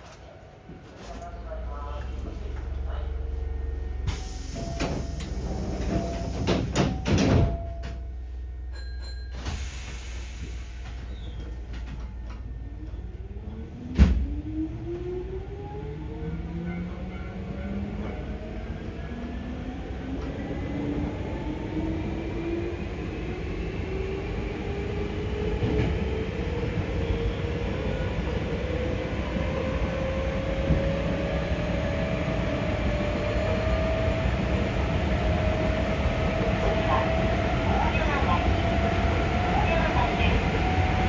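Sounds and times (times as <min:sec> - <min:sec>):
wheels rumbling on rail: 0:00.0 - 0:41.0.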